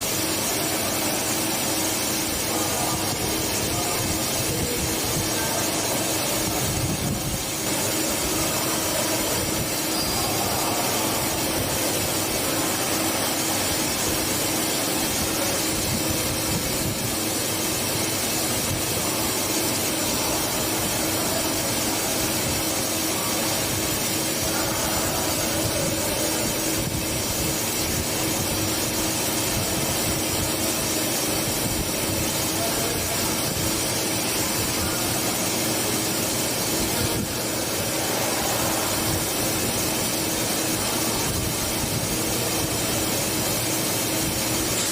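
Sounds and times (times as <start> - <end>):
machine cutting metal: 0.0 - 44.9.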